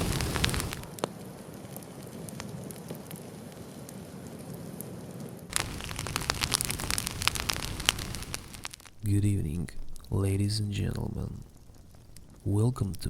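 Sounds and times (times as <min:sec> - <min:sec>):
flames hissing: 0:00.0 - 0:13.0
wood fire crackling and popping: 0:00.0 - 0:13.0.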